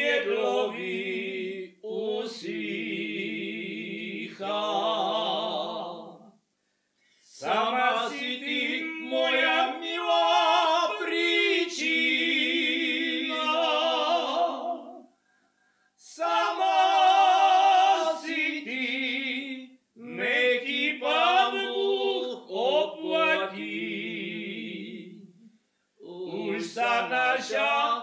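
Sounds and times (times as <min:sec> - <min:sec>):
male voice choir singing: 0:00.0 - 0:06.3, 0:07.3 - 0:15.0, 0:16.0 - 0:25.2, 0:26.0 - 0:28.0.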